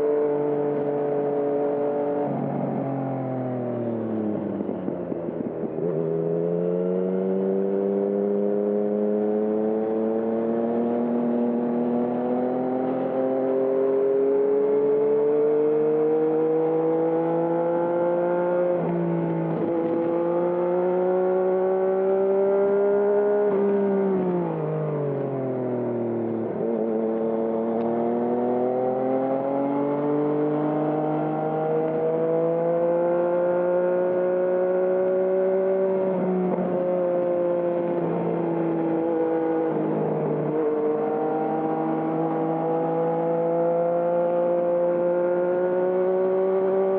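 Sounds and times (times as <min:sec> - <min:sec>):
motorcycle engine revving under load: 0:00.0 - 0:46.9.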